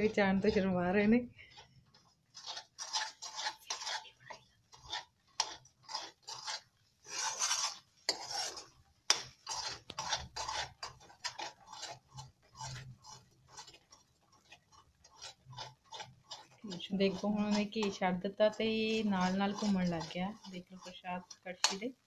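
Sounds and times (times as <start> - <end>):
metal ladle scraping metal pan: 0.0 - 22.0.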